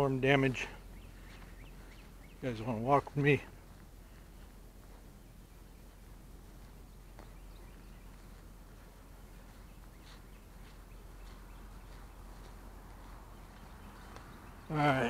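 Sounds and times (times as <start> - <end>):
footsteps through grass: 0.0 - 15.0
low outdoor rumble: 0.0 - 15.0.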